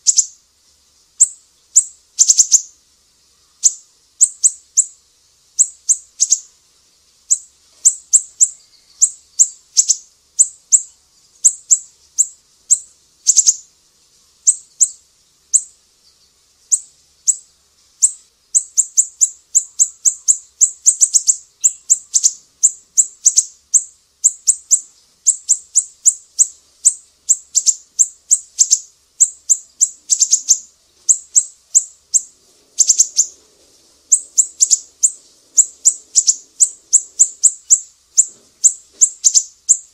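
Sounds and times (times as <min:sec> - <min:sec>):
songbirds chip calls: 0:00.0 - 0:00.4, 0:01.2 - 0:06.5, 0:07.2 - 0:13.7, 0:14.4 - 0:39.9.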